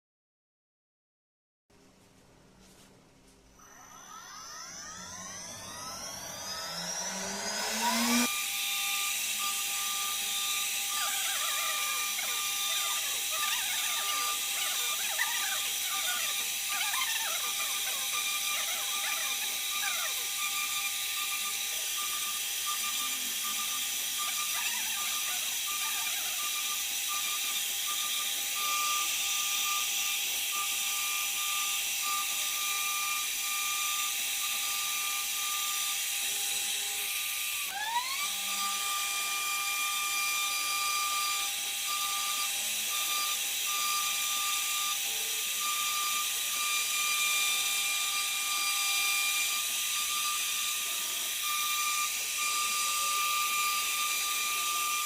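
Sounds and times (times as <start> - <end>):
router spindle whining: 3.6 - 55.0.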